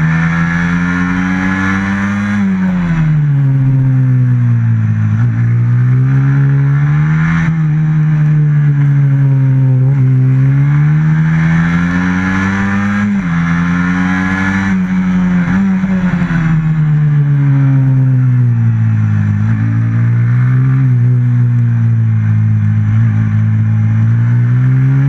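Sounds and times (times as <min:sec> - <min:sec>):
motorcycle engine at racing revs: 0:00.0 - 0:25.0.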